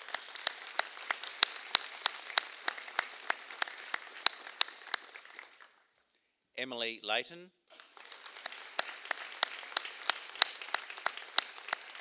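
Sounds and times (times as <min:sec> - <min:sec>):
audience applauding: 0:00.0 - 0:05.8, 0:07.7 - 0:12.0.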